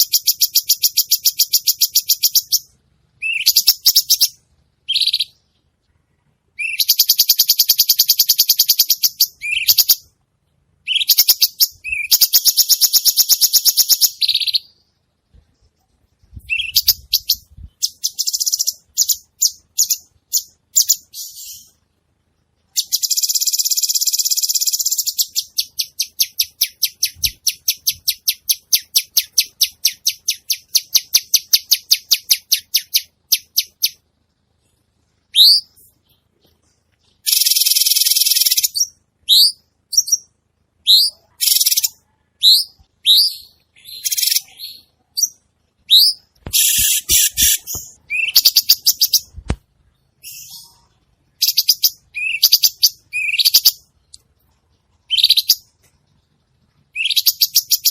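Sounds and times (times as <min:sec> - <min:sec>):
bird singing varied song: 0:00.0 - 0:57.9.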